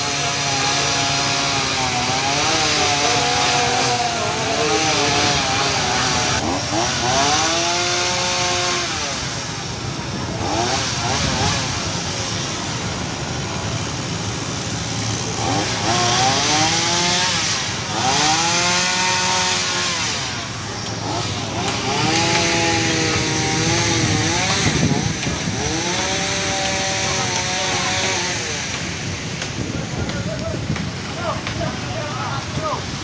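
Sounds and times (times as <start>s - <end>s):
chainsaw cutting branches: 0.0s - 33.0s.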